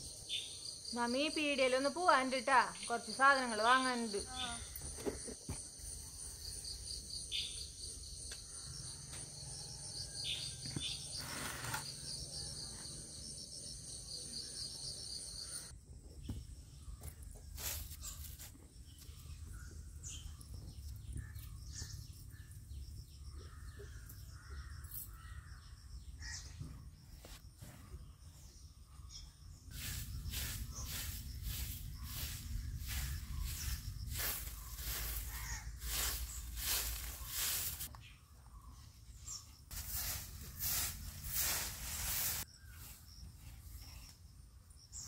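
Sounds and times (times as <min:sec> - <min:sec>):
insects chirring: 0:00.0 - 0:28.2, 0:28.9 - 0:38.0.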